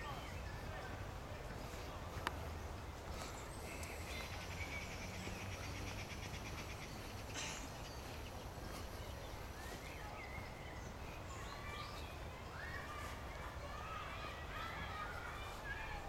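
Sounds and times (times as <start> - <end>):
birds chirping and trilling: 2.6 - 16.0.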